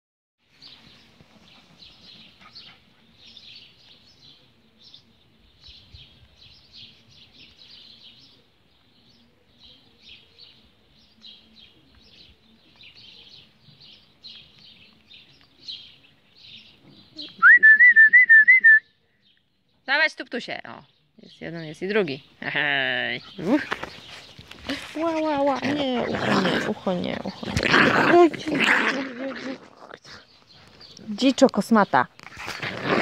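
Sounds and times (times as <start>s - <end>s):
small birds chirping: 0.5s - 17.5s, 18.8s - 33.0s.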